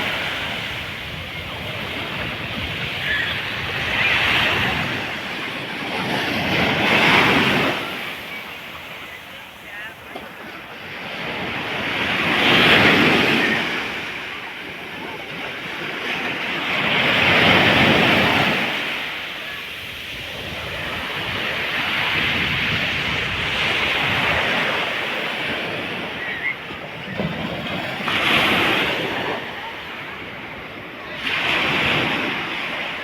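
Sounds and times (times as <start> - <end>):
waves breaking on beach: 0.0 - 33.0.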